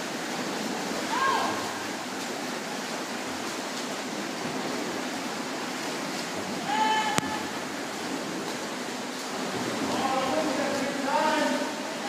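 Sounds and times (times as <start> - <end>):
swimmers splashing in pool: 0.0 - 12.0.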